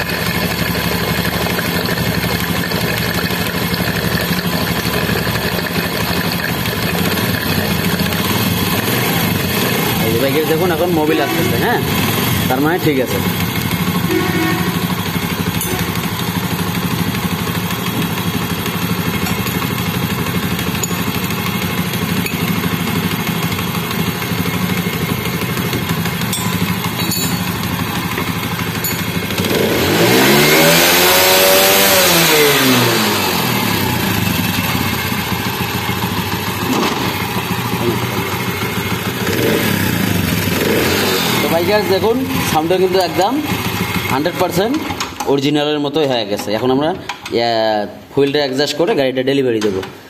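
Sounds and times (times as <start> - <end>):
motorcycle engine idling: 0.0 - 45.2.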